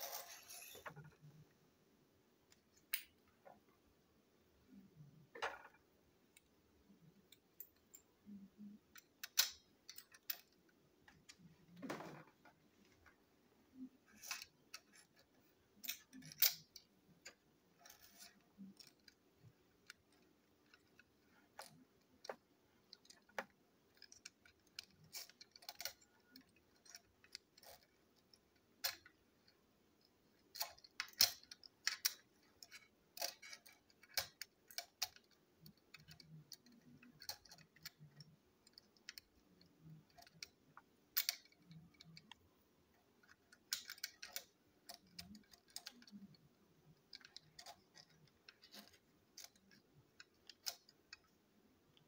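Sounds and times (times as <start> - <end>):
plastic toy parts clicking: 7.3 - 11.5, 13.8 - 42.4, 43.0 - 52.0.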